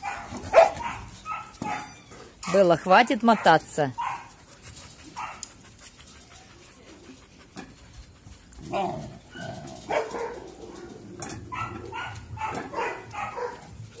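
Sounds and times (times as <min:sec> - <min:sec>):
dogs yipping and barking: 0:00.0 - 0:02.4, 0:03.1 - 0:14.0.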